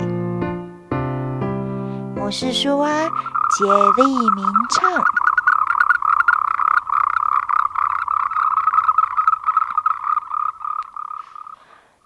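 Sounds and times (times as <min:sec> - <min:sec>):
tree frogs croaking: 0:02.2 - 0:12.0.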